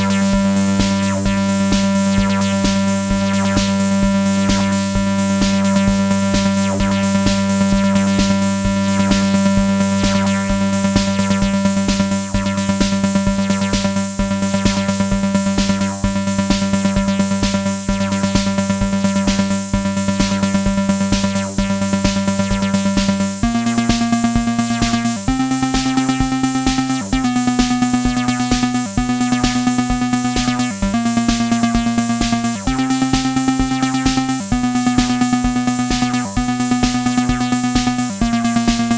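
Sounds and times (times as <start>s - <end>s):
analog bass synthesizer pattern: 0.0s - 38.9s
fast electronic pulse: 0.0s - 38.9s.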